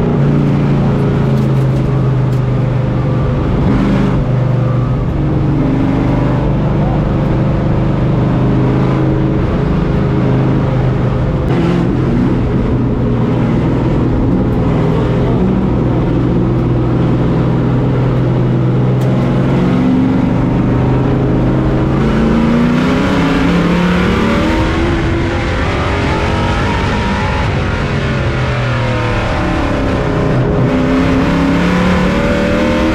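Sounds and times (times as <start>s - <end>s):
race truck engine revving: 0.0s - 32.9s.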